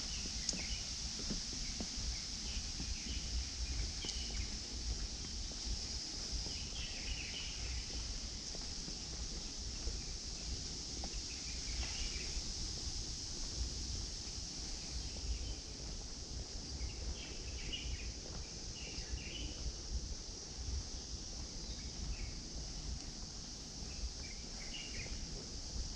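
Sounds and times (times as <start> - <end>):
high insect drone: 0.0 - 25.9.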